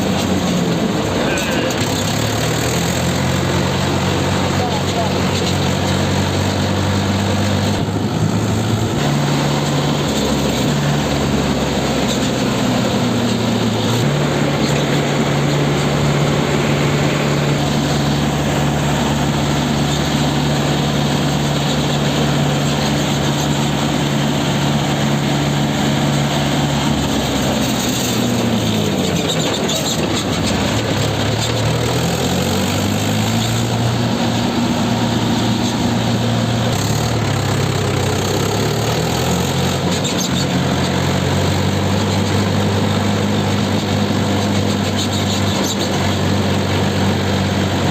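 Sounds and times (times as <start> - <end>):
road and wind noise: 0.0 - 47.9
tractor diesel engine: 0.0 - 47.9.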